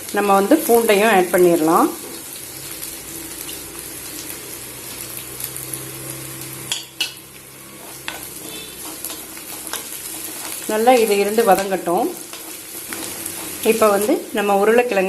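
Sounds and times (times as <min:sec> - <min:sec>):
onions sizzling in a pan: 0:00.0 - 0:15.0.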